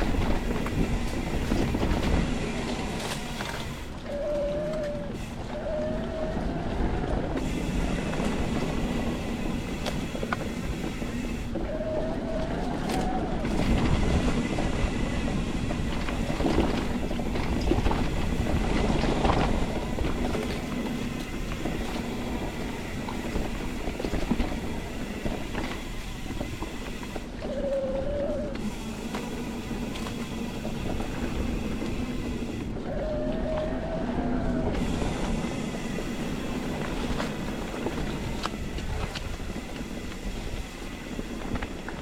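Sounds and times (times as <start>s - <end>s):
bike clattering and rattling: 0.0s - 42.0s
bike tyres rolling over dirt: 0.0s - 42.0s.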